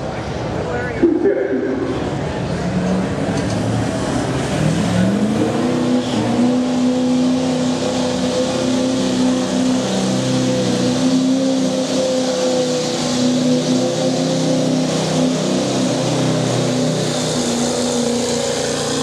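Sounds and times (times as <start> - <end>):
truck engine revving under load: 1.0 - 19.0.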